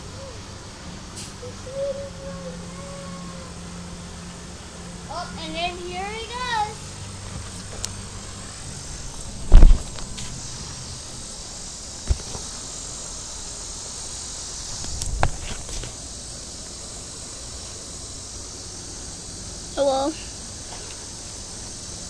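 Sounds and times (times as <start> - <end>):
high insect buzz: 0.0 - 22.0.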